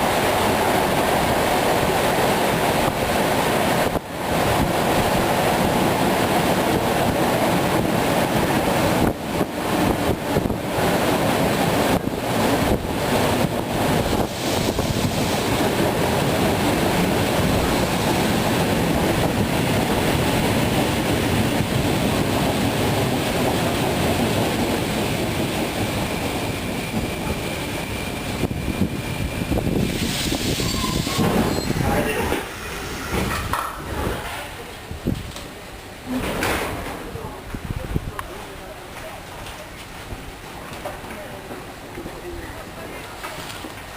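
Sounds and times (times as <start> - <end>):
rushing air: 0.0 - 36.2
train wheels on rails: 0.0 - 43.9.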